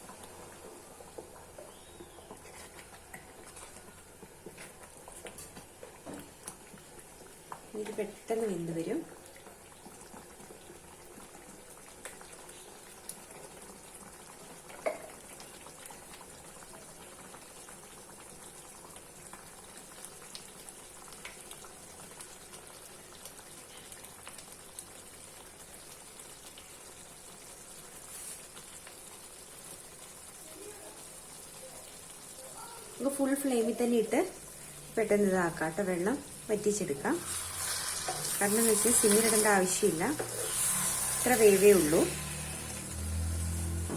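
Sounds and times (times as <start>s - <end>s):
water bubbling in a pan: 0.0s - 43.9s.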